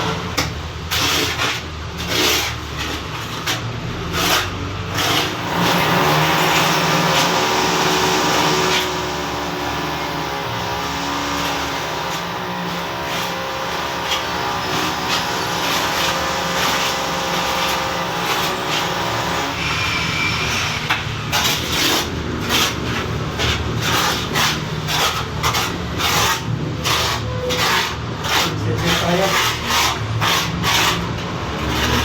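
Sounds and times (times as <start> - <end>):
hand tool rasping scrapes: 0.4 - 32.0.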